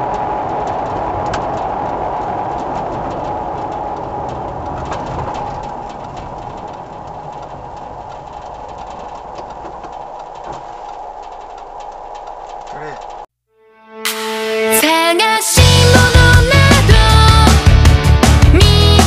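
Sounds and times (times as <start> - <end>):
car engine and road noise: 0.0 - 13.4, 15.5 - 19.0.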